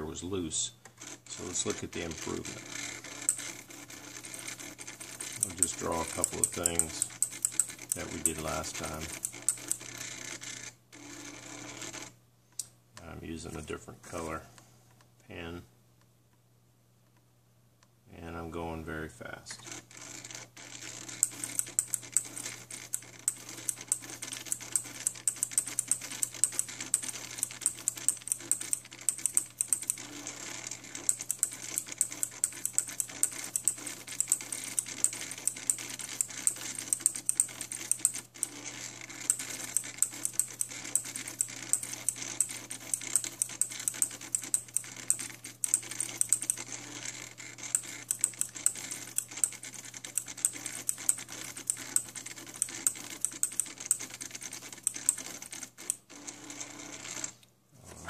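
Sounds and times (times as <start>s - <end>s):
pen plotter motors clicking: 0.9s - 12.1s, 19.6s - 57.5s.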